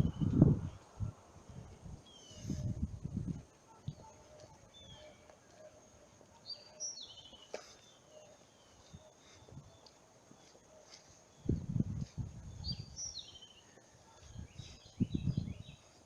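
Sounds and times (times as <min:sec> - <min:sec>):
birds chirping: 0:01.5 - 0:02.8, 0:03.4 - 0:16.0.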